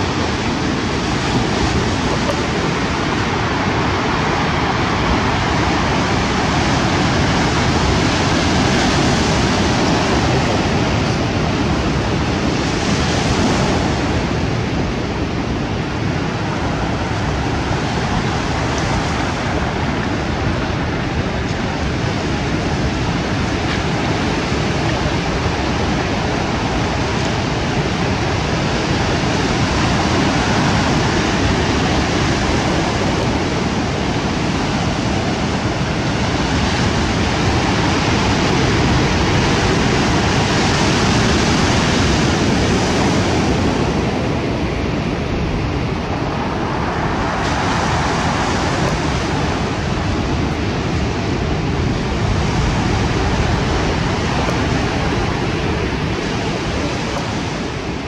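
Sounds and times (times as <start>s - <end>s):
surf on a cobble beach: 0.0s - 58.0s.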